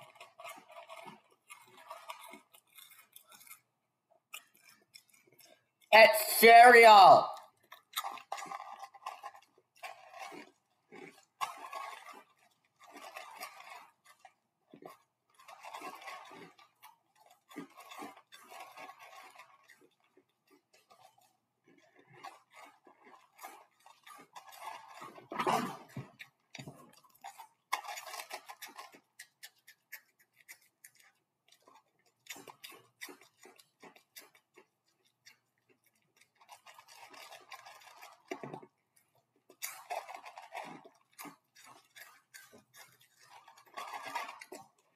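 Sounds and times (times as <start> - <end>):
cereal crunching: 0.0 - 5.9, 7.6 - 44.9.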